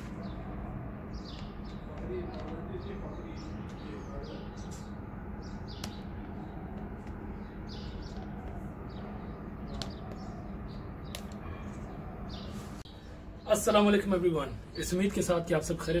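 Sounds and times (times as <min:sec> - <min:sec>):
low outdoor hum: 0:00.0 - 0:16.0
small birds chirping: 0:00.0 - 0:16.0.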